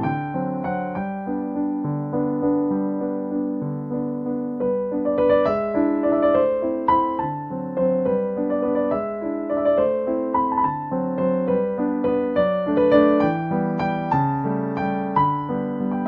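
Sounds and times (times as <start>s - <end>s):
gentle keyboard melody: 0.0s - 16.0s.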